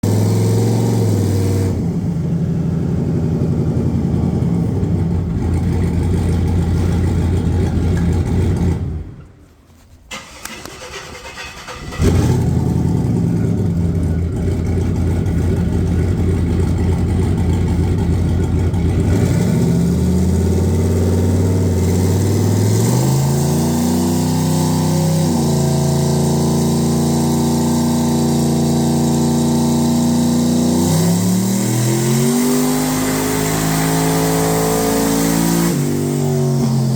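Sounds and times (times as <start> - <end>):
car engine idling and revving: 0.0 - 9.3, 10.1 - 36.9.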